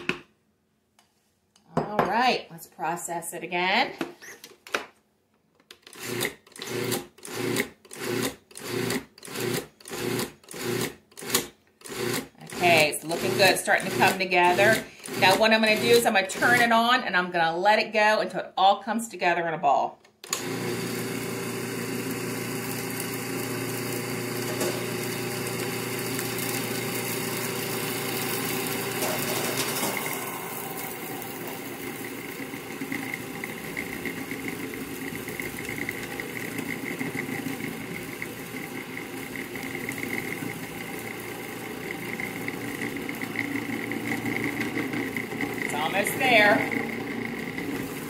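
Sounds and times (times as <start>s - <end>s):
food processor running: 5.8s - 16.8s, 20.2s - 48.0s.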